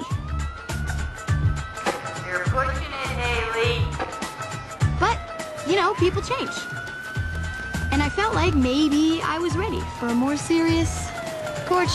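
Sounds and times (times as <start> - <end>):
music with steady beat: 0.0 - 10.3
police siren wailing: 0.0 - 11.9.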